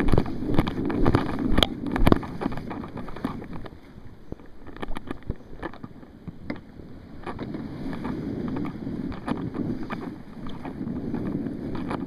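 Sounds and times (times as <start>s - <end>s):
water sloshing along kayak: 0.0s - 12.0s.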